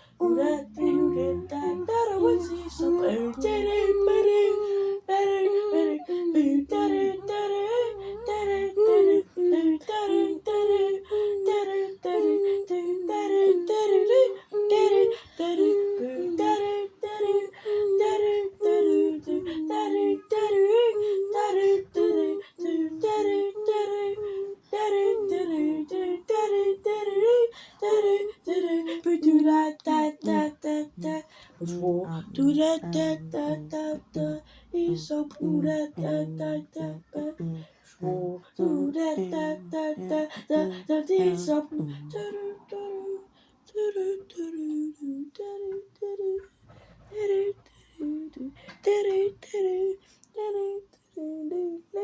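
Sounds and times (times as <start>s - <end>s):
person singing scat a cappella: 0.0s - 52.0s.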